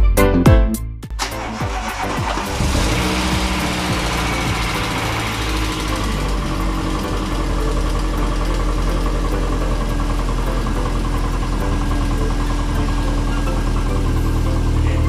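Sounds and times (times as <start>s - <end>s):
car engine idling: 1.2s - 15.0s
engine ticking: 1.2s - 15.0s.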